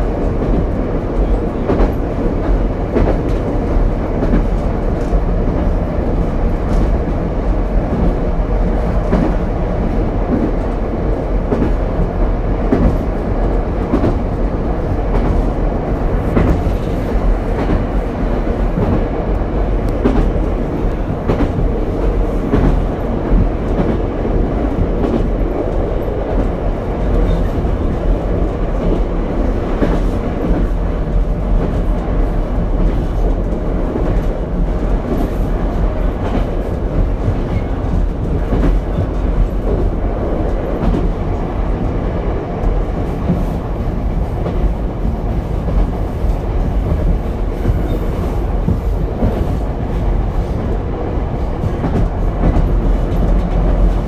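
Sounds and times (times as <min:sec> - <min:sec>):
rumble of wheels on rail: 0:00.0 - 0:54.0.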